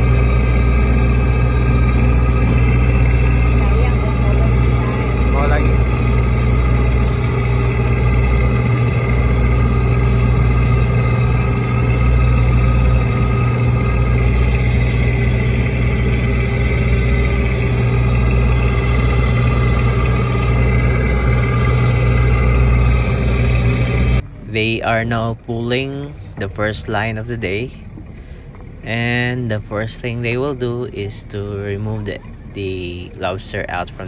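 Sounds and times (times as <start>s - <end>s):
boat engine droning: 0.0s - 34.0s
water rushing along hull: 0.0s - 34.0s.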